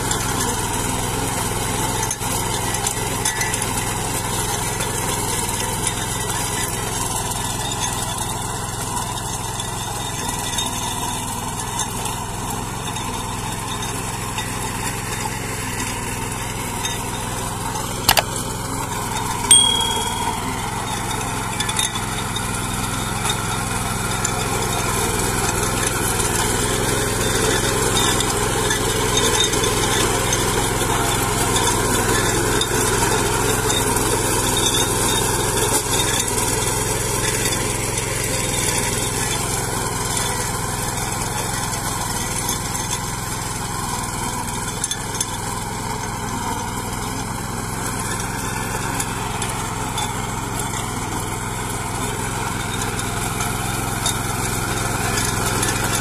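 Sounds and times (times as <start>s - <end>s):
small petrol engine running: 0.0s - 56.0s
tiller blades tilling dry soil: 0.0s - 56.0s.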